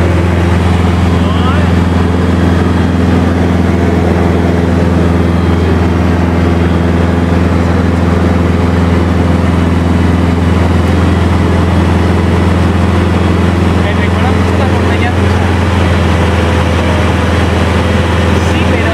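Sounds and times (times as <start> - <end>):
plane engine and propeller drone: 0.0 - 18.9.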